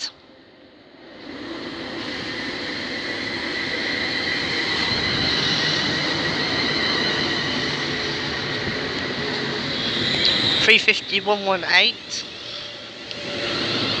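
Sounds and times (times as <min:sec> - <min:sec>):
train wheels rumbling on rail: 0:01.1 - 0:14.0
high-pitched train tones: 0:01.2 - 0:14.0.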